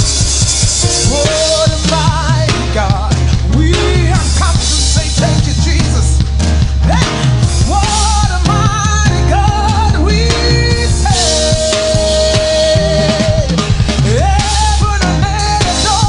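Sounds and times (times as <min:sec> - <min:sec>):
drum kit: 0:00.0 - 0:16.0
heavy bass line: 0:00.0 - 0:16.0
wavering lead melody: 0:00.0 - 0:16.0.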